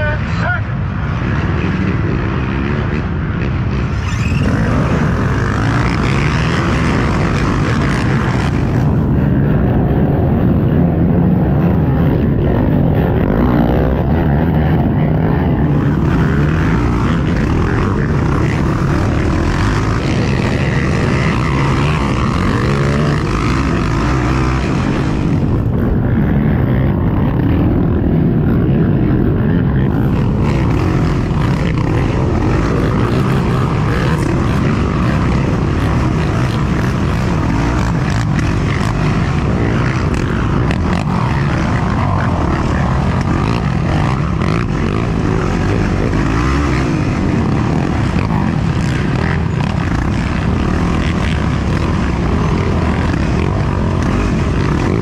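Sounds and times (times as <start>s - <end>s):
quad engine revving: 1.2s - 55.0s.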